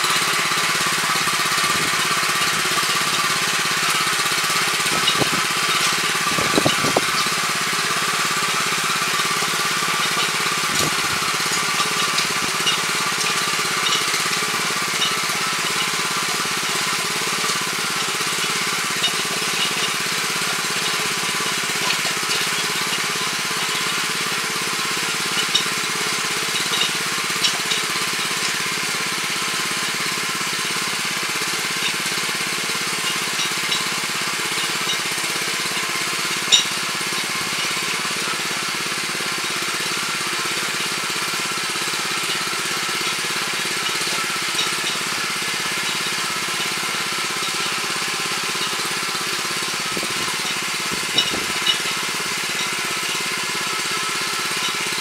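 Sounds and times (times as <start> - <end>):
tiller churning soil: 0.0 - 55.0
tines knocking hard ground: 0.0 - 55.0.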